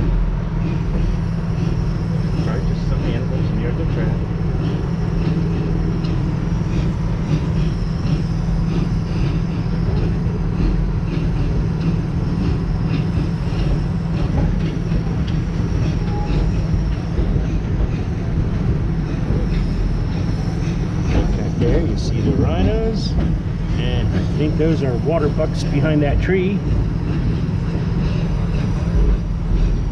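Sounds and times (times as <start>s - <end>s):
train rumbling on track: 0.0s - 29.9s.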